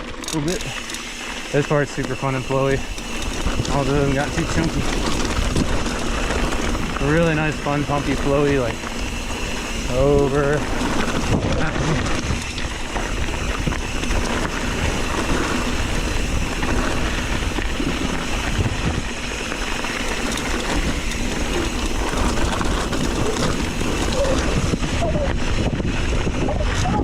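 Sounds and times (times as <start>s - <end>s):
bike rattling over stones: 0.0s - 27.0s
bike tyres on rocky trail: 0.0s - 27.0s
wind rumbling on microphone: 1.4s - 27.0s.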